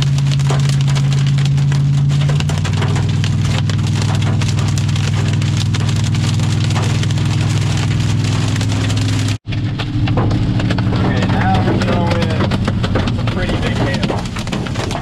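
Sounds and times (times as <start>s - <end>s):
engine and tyres drone: 0.0s - 15.0s
hail ticking on vehicle: 0.0s - 15.0s.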